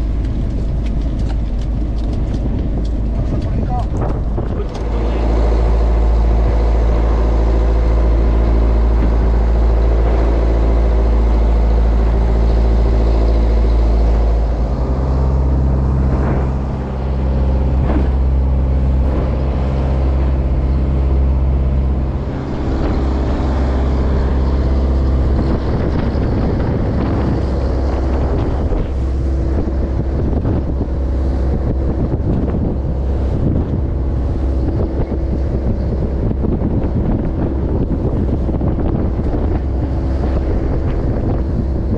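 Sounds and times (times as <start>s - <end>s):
diesel boat engine running: 0.0s - 41.9s.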